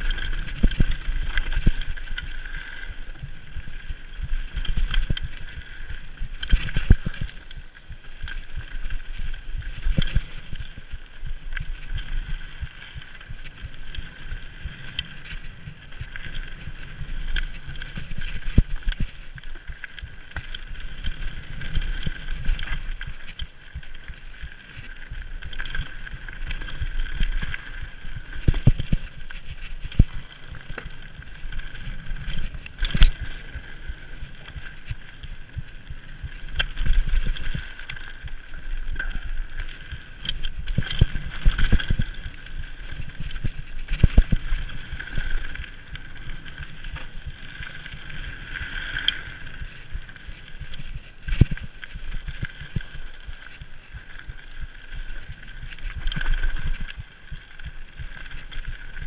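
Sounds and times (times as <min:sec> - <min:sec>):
bike rattling over bumps: 0:00.0 - 0:59.0
bike tyres crunching on gravel: 0:00.0 - 0:59.0.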